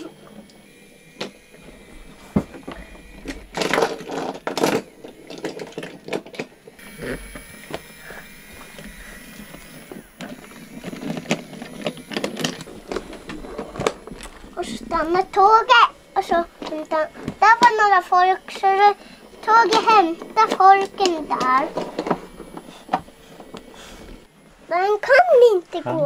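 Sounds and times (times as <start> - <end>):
toy train rattling on wooden track: 0.0 - 24.3.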